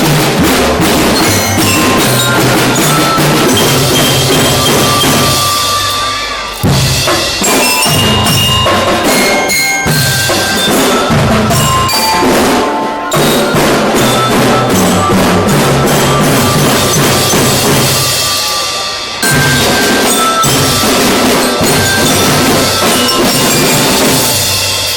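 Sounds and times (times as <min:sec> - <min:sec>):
drums beating: 0:00.0 - 0:24.9
bell-like melody notes: 0:00.8 - 0:24.9.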